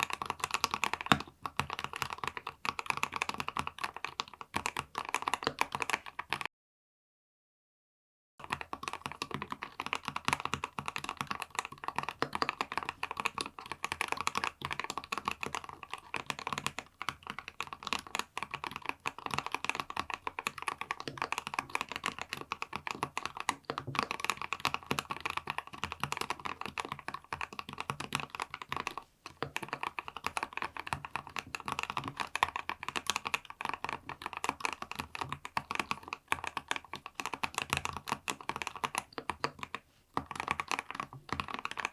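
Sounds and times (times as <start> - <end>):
mechanical keyboard typing: 0.0 - 6.5, 8.4 - 41.9.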